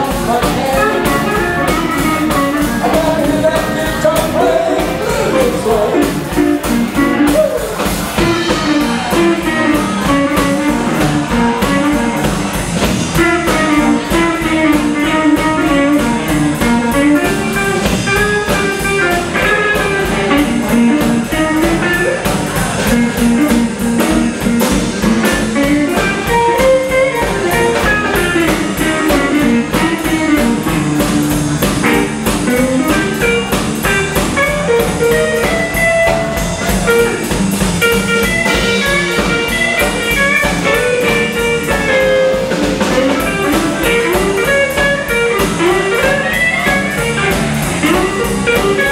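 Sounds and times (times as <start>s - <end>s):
drum kit: 0.0s - 48.9s
electric bass: 0.0s - 48.9s
electric guitar: 0.0s - 48.9s.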